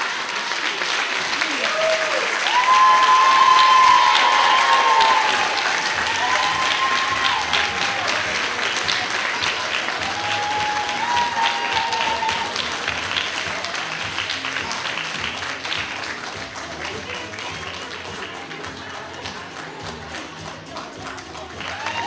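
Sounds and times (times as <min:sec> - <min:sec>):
people cheering: 0:00.0 - 0:20.0, 0:21.2 - 0:22.0
audience applauding: 0:00.0 - 0:22.0.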